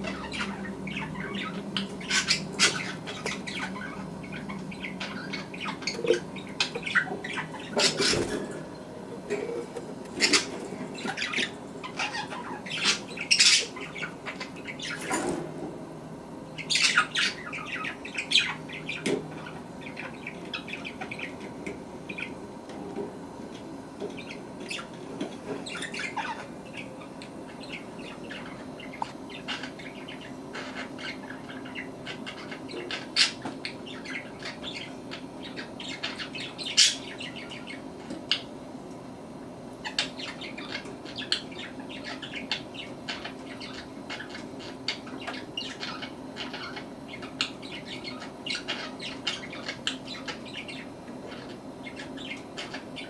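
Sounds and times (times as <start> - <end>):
budgerigars squeaking and squawking: 0.0 - 8.6, 9.3 - 15.4, 16.6 - 22.4, 24.0 - 38.5, 39.8 - 53.0.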